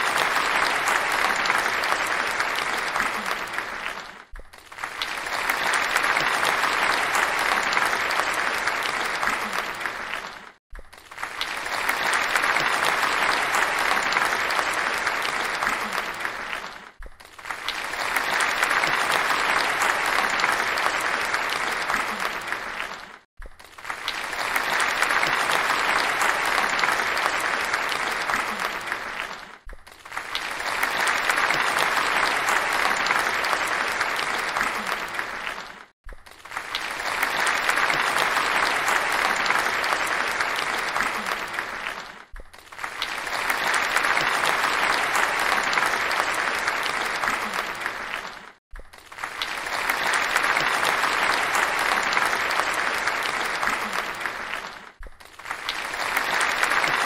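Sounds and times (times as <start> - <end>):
crowd applauding: 0.0 - 57.0.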